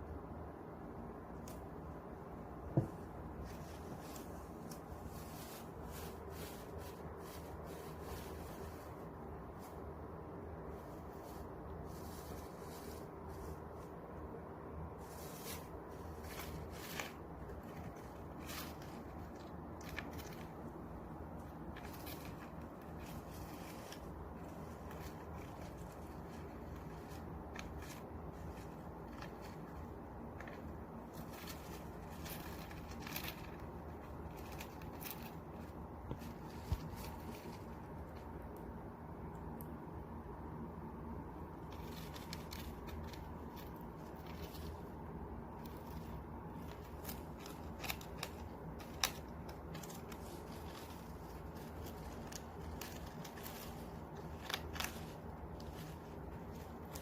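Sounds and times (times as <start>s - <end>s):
faint low hum: 0.0s - 57.0s
hamster gnawing and scratching: 0.9s - 57.0s.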